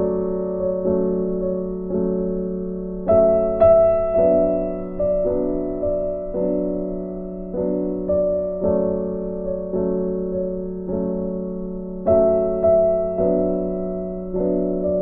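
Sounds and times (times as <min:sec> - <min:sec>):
soft keyboard melody: 0:00.0 - 0:15.0.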